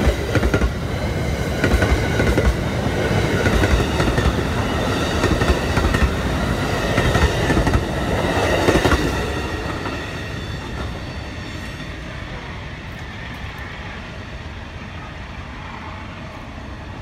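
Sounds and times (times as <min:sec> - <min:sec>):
passenger train passing: 0:00.0 - 0:17.0.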